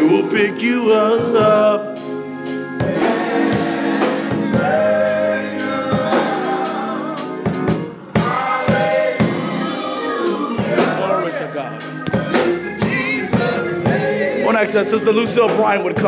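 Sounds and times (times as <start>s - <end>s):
drum kit: 0.0s - 16.0s
gospel singers: 0.0s - 16.0s
organ chords: 0.0s - 16.0s.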